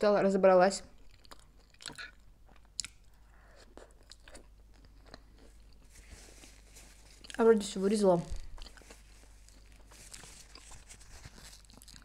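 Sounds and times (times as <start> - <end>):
person chewing crunchy food: 1.0 - 7.4, 8.4 - 12.0.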